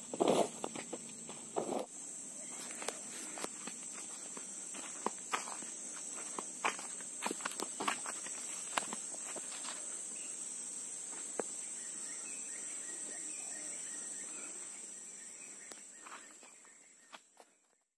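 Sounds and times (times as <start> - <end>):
high-pitched insect drone: 0.0 - 17.5.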